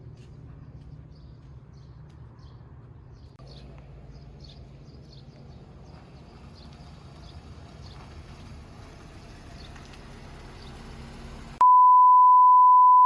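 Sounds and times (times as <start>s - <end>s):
small birds chirping: 0.0s - 11.5s.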